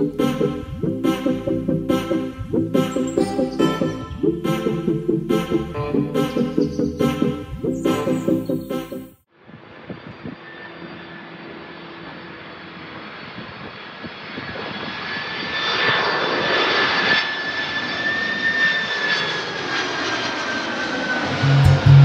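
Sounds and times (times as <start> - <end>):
high jet whine: 0.0 - 13.5, 14.6 - 22.0
jet engines rumbling: 0.0 - 22.0.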